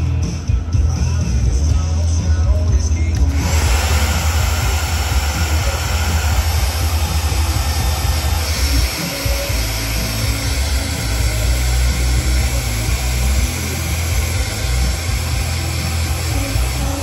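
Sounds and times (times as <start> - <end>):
hair dryer blowing: 3.0 - 17.0.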